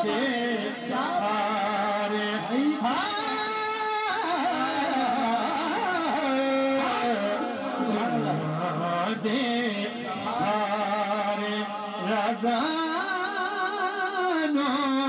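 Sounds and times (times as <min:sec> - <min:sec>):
man singing into microphone: 0:00.0 - 0:15.0.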